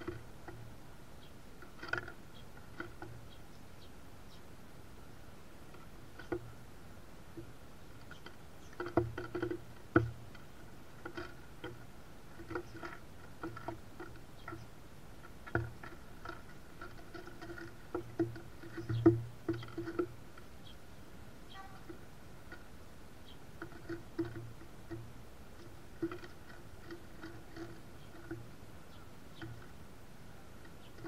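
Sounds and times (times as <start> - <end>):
birds pecking seeds on wood: 0.0 - 31.0.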